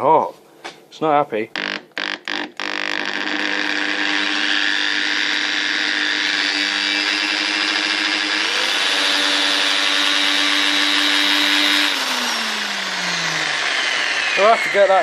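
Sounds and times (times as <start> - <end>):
hammer drill motor whining: 1.6 - 15.0.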